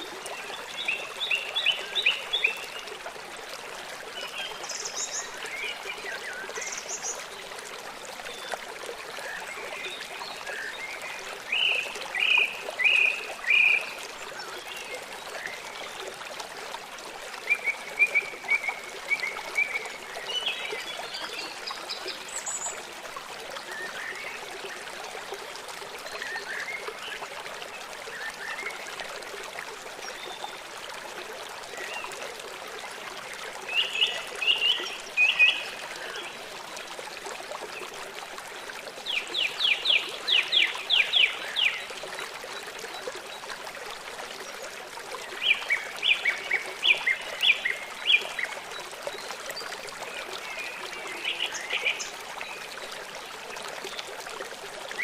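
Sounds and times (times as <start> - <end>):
trickle of running water: 0.0 - 55.0.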